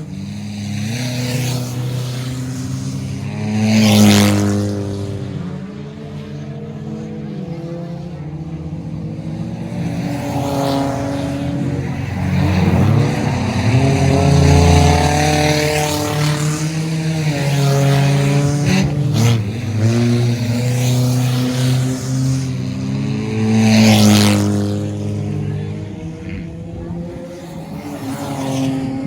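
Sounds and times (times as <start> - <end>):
race car engines: 0.0 - 29.0.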